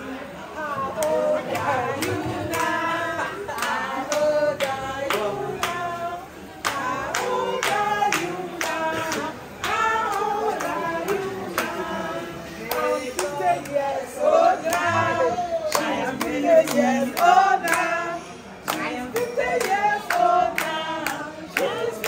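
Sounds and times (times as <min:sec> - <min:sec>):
group of voices singing: 0:00.0 - 0:22.0
hand claps: 0:00.9 - 0:12.0, 0:12.6 - 0:13.9, 0:14.6 - 0:15.0, 0:15.6 - 0:18.0, 0:18.6 - 0:22.0.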